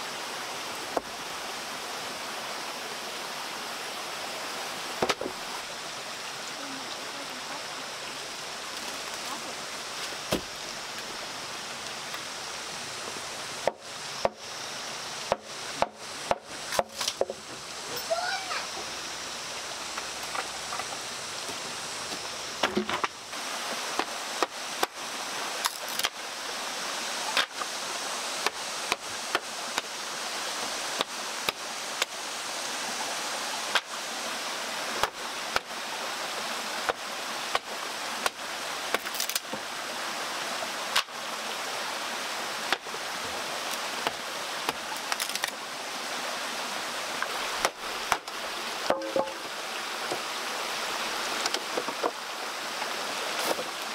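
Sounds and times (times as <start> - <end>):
rocky mountain stream rushing: 0.0 - 53.9.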